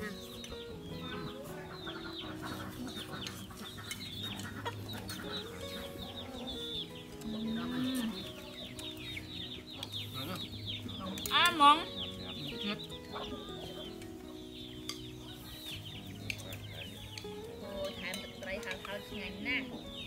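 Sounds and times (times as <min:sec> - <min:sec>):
chickens clucking and chirping: 0:00.0 - 0:20.0.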